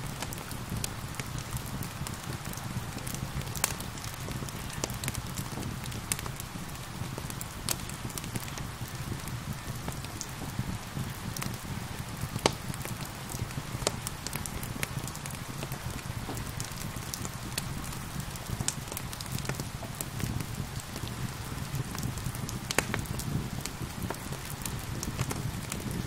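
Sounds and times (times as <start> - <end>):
gentle rain hissing: 0.0 - 26.0
wood fire crackling: 0.0 - 26.0.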